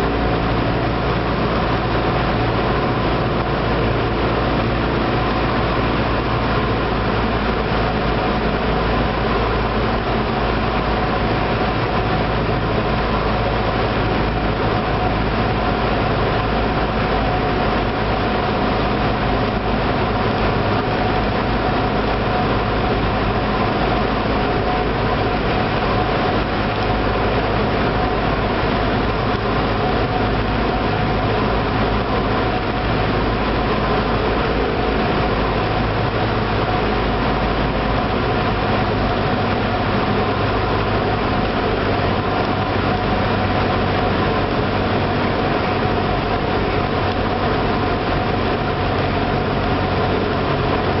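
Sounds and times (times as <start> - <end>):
airplane engine and propeller: 0.0 - 51.0.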